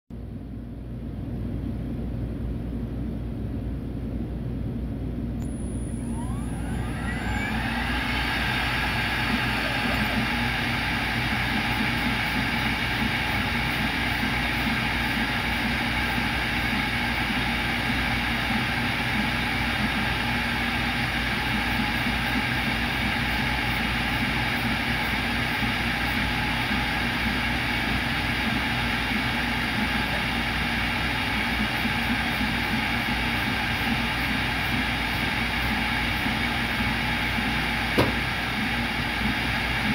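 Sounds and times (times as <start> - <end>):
router spindle whine: 5.4 - 39.9.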